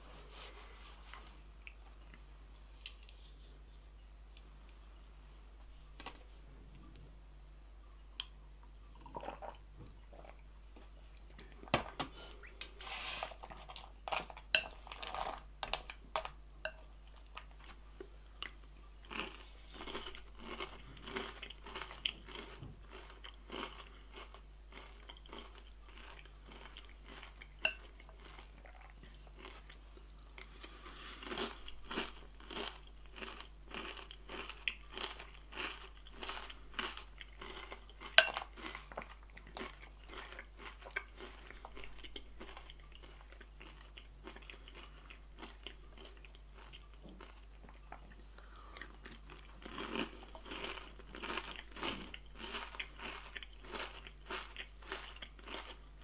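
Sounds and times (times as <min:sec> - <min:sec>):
chewing crunchy food: 0:08.2 - 0:56.0.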